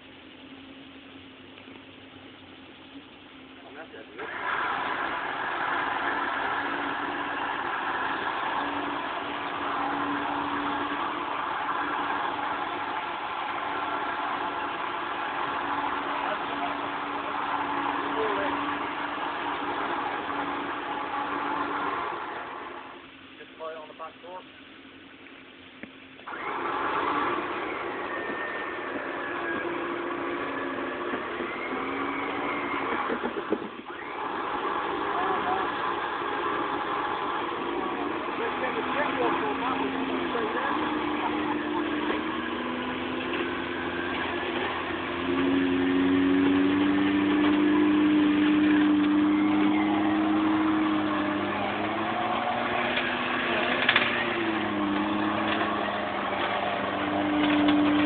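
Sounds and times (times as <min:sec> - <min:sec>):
vehicle engine drone: 0:00.0 - 0:58.0.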